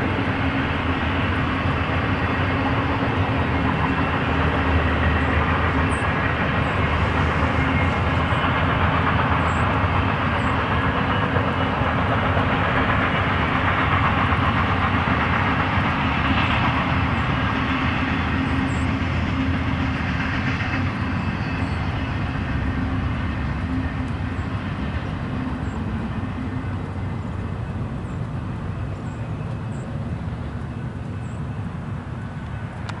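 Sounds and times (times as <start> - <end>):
freight train cars rolling past: 0.0 - 33.0.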